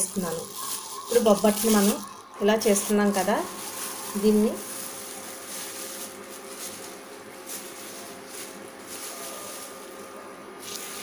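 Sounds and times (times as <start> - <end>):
ghee sizzling in a pan: 0.0 - 11.0.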